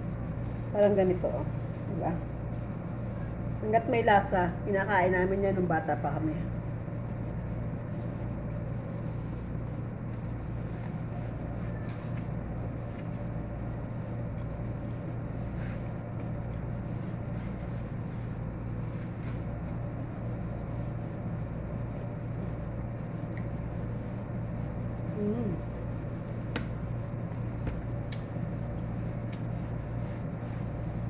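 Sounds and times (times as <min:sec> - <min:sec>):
electric fan humming: 0:00.0 - 0:31.0.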